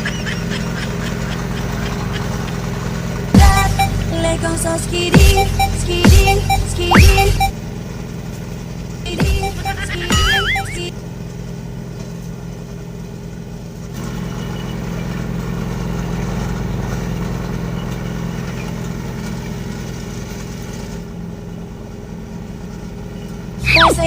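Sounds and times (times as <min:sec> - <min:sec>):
steady engine hum: 0:00.0 - 0:24.0.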